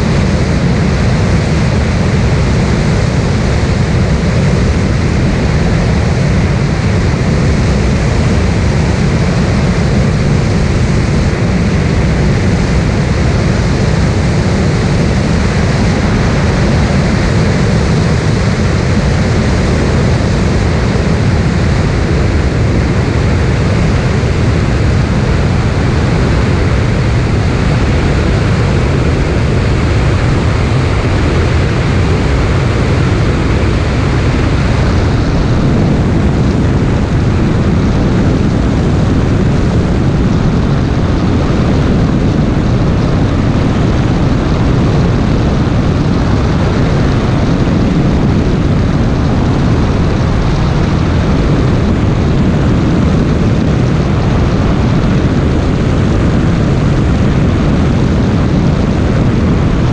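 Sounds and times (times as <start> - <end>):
light aircraft engine drone: 0.0 - 59.9.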